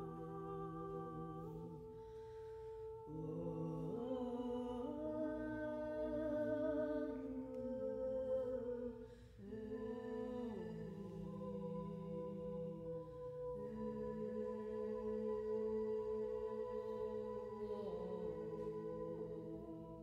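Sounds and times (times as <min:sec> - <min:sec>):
women singing sustained chords: 0:00.0 - 0:20.0.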